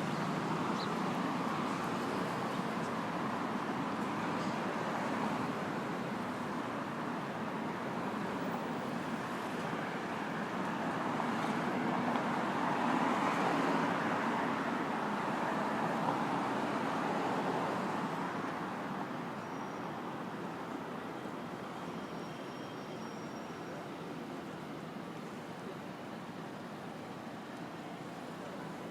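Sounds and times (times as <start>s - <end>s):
passing traffic: 0.0s - 28.9s.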